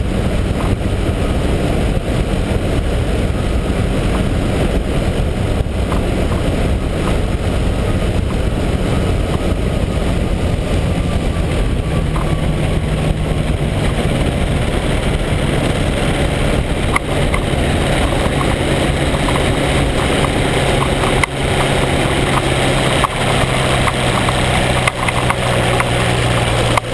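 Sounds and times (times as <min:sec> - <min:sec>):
engine droning at low power: 0:00.0 - 0:26.9
wind noise on microphone: 0:00.0 - 0:26.9.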